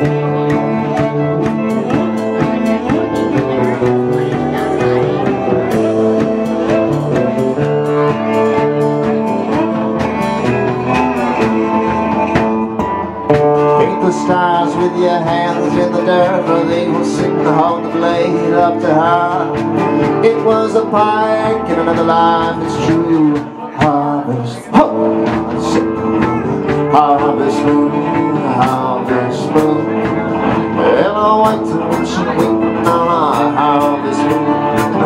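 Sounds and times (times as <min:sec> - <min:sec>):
drums: 0:00.0 - 0:35.0
man singing: 0:00.0 - 0:35.0
strummed acoustic guitar: 0:00.0 - 0:35.0.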